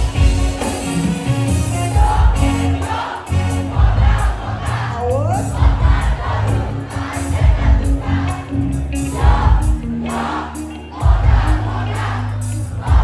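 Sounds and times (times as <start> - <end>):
crowd singing along: 0.0 - 13.0
live band playing loudly: 0.0 - 13.0.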